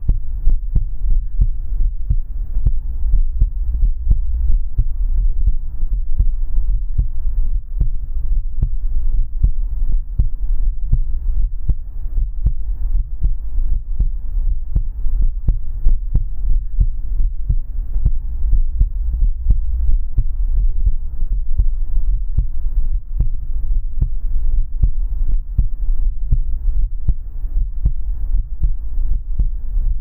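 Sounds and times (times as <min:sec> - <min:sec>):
heartbeat thumping: 0:00.0 - 0:30.0.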